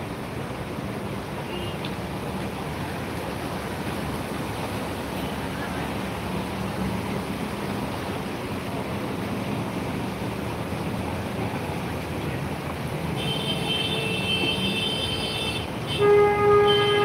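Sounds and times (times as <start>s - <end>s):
floodwater rushing: 0.0s - 17.0s
vehicle engines humming: 0.0s - 17.0s.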